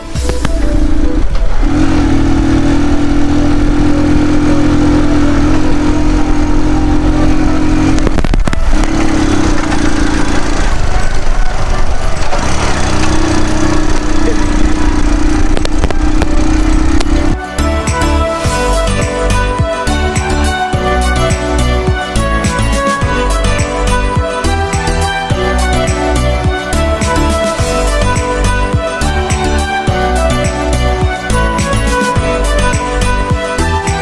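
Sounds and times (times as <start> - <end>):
motorcycle engine hum: 0.0 - 34.0
wind and road noise: 0.0 - 34.0.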